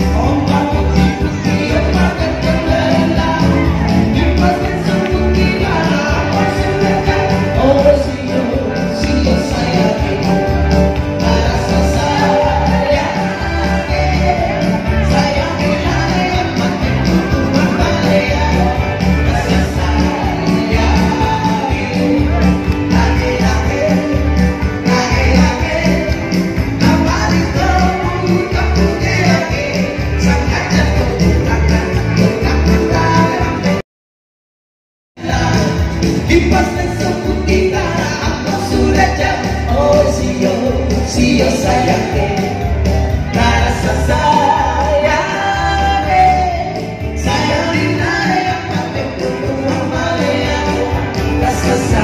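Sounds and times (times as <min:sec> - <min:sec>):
person singing: 0:00.0 - 0:33.8, 0:35.2 - 0:52.0
upbeat pop song: 0:00.0 - 0:33.8, 0:35.2 - 0:52.0.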